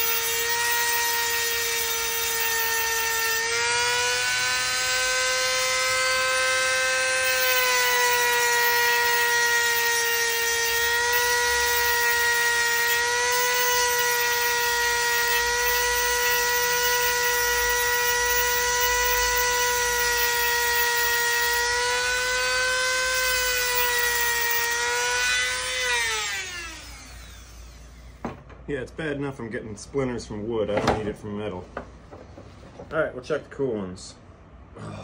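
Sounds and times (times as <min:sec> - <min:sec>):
rotary tool cutting metal: 0:00.0 - 0:28.2.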